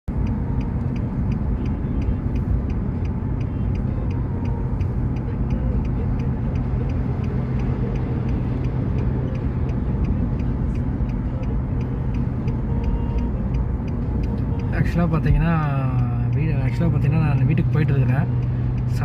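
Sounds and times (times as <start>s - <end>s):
engine and road rumble: 0.0s - 19.0s
regular ticking: 0.1s - 19.0s.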